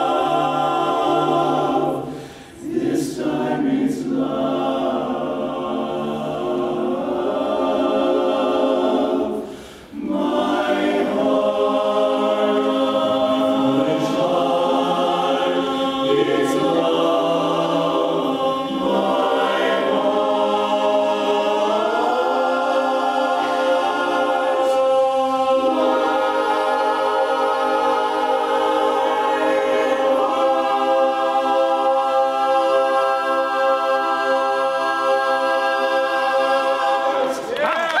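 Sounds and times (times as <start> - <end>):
men's chorus singing a cappella: 0.0 - 37.8.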